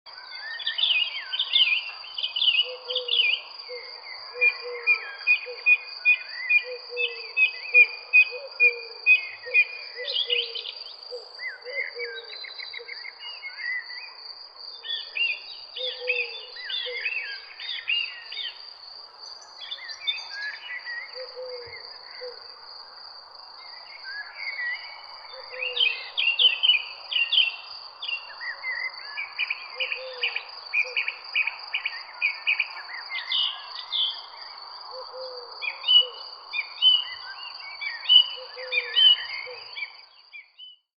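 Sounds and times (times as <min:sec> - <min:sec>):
songbirds singing and chirping: 0:00.1 - 0:40.9.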